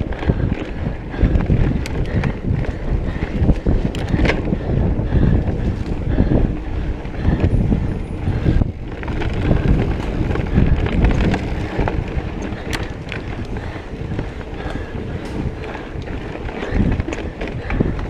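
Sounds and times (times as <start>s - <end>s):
bike rattling clicks: 0.0s - 18.0s
bike tyre rumble: 0.0s - 18.0s
wind buffeting microphone: 0.0s - 18.0s.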